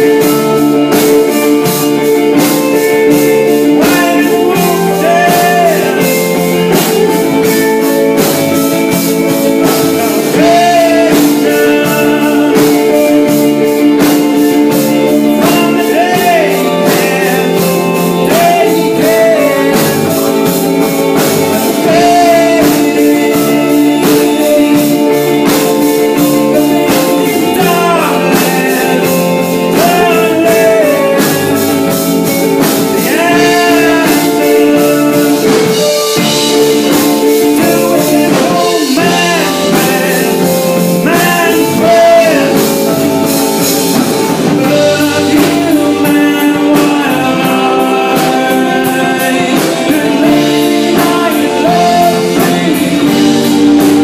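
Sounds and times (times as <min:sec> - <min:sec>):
bass guitar: 0:00.0 - 0:54.0
drum kit steady beat: 0:00.0 - 0:54.0
electric guitar: 0:00.0 - 0:54.0
man singing: 0:00.0 - 0:54.0.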